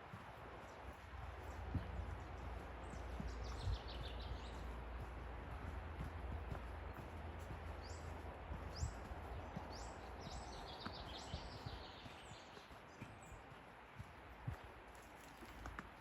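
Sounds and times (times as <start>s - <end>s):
soft footsteps on path: 0.0s - 16.0s.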